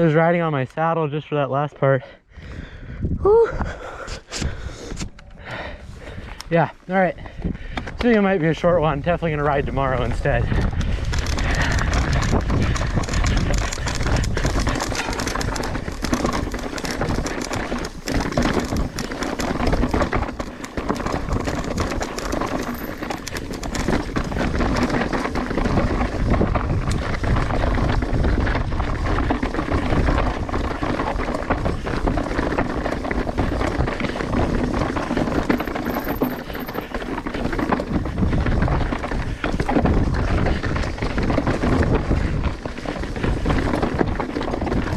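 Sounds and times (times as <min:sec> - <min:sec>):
bike tyres on dirt and rock: 0:05.6 - 0:44.9
bike clattering and rattling: 0:07.2 - 0:44.9.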